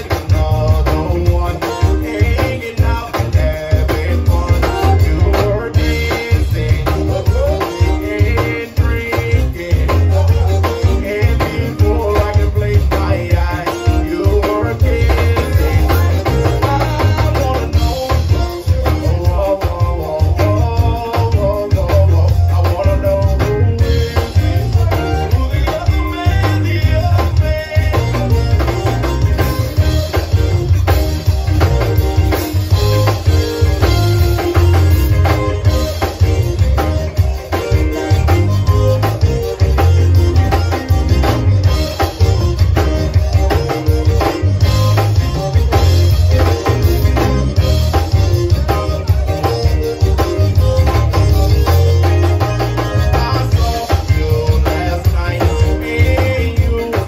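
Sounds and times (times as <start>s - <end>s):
accordion: 0.0s - 57.0s
drum kit beat: 0.0s - 57.0s
electric bass: 0.0s - 57.0s
guitar: 0.0s - 57.0s
live band playing dance music: 0.0s - 57.0s.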